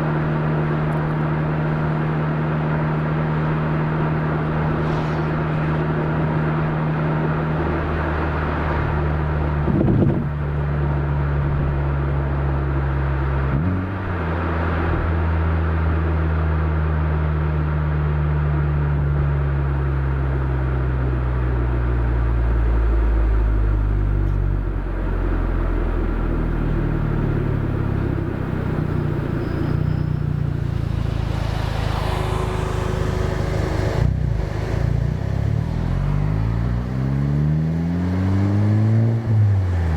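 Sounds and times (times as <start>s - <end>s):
car exhaust note: 0.0s - 39.9s.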